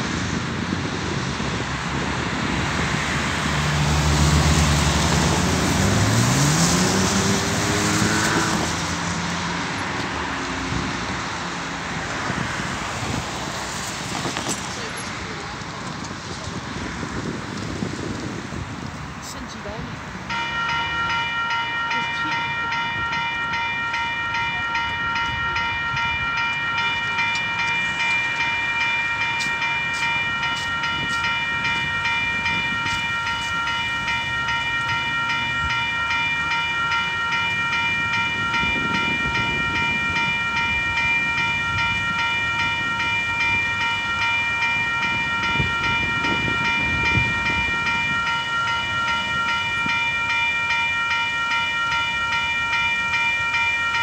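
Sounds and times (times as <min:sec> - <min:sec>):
level crossing warning bell: 0:00.0 - 0:17.8, 0:19.2 - 0:54.0.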